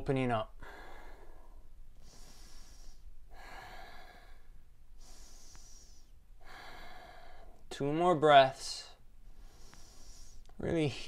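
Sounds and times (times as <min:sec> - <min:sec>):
man breathing slowly: 0:00.5 - 0:07.7, 0:09.2 - 0:11.0.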